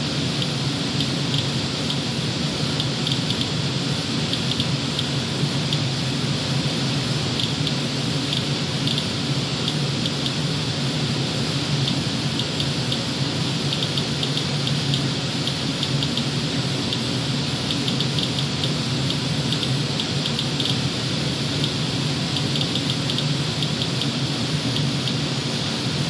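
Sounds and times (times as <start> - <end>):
radiation monitor clicking: 0.0 - 6.1, 7.0 - 26.0
steady rushing hum: 0.0 - 26.0.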